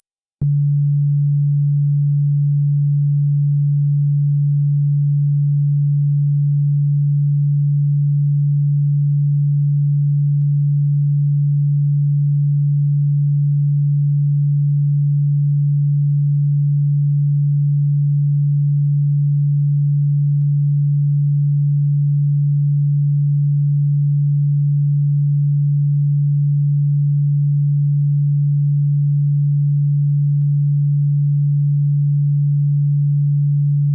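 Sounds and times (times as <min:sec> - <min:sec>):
low steady electronic tone: 0:00.4 - 0:33.9.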